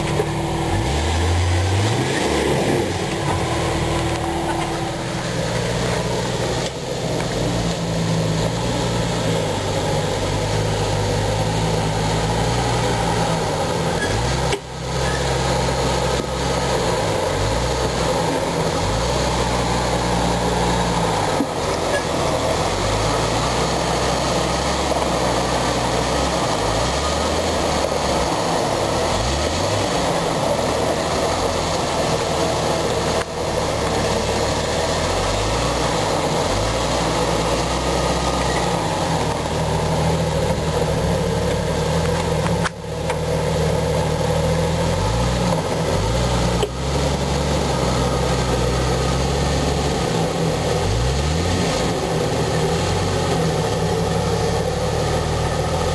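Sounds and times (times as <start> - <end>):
car engine running under load: 0.0 - 55.9.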